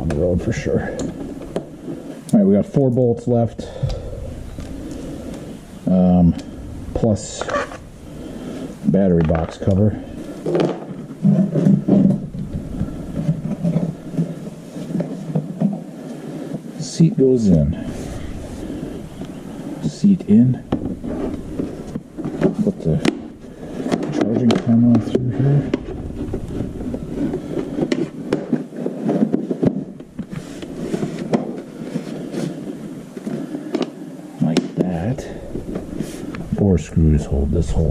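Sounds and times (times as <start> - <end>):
plastic parts rubbing and knocking: 0.0 - 2.8, 3.7 - 37.9.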